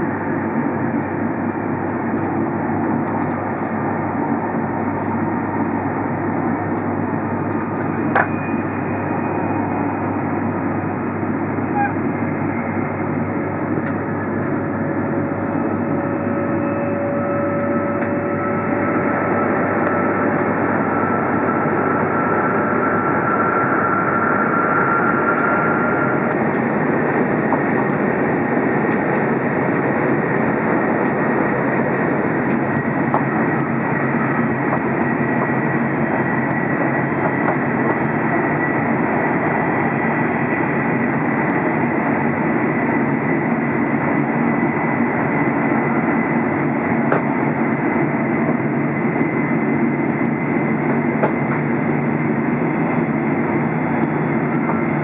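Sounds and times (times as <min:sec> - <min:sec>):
train cabin rushing drone: 0:00.0 - 0:55.0.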